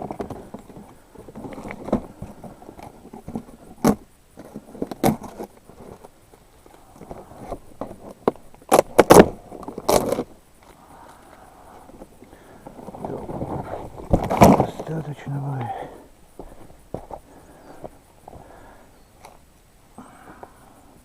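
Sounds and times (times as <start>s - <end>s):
birch bark rustling: 0.0s - 21.0s.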